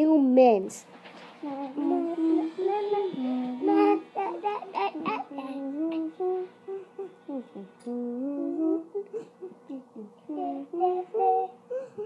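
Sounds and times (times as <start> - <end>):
person singing wordless tune: 1.4 - 12.0.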